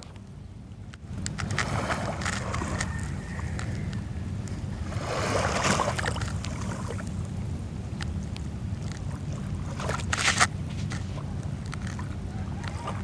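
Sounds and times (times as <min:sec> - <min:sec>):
steady low rumble: 0:00.0 - 0:13.0
small waves washing on shore: 0:01.1 - 0:07.4, 0:08.0 - 0:13.0.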